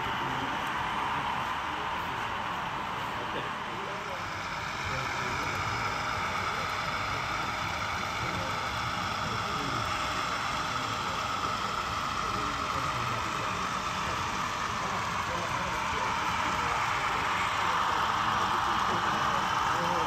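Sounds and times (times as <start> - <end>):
continuous hum: 0.0 - 20.0
indistinct chatter: 0.0 - 20.0.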